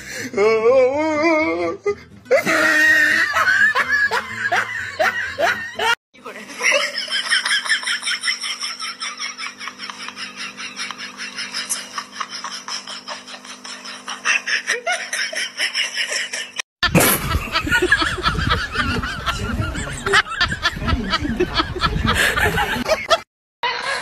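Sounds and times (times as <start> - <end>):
people laughing: 2.3 - 24.0.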